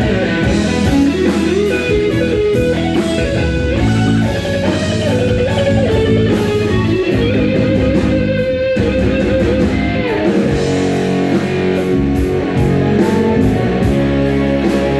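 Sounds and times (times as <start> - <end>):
bass notes: 0.0 - 14.9
electric guitar melody: 0.0 - 14.9
regular beat: 0.0 - 14.9.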